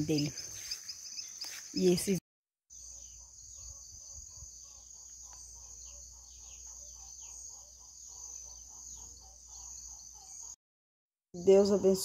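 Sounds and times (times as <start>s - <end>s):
insect trill: 0.0s - 10.5s.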